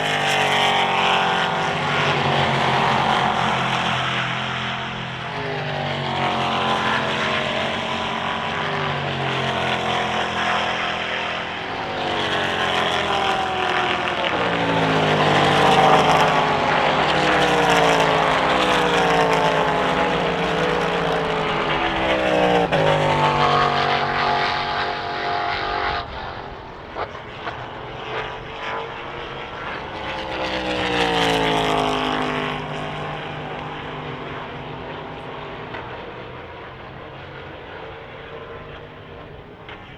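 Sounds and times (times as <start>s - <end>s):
race cars passing at speed: 0.0s - 39.9s.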